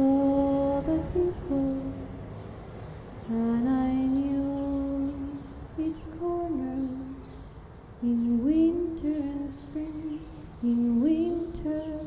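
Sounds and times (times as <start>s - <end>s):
woman singing wordless notes: 0.0s - 2.2s, 3.3s - 7.4s, 8.0s - 12.0s.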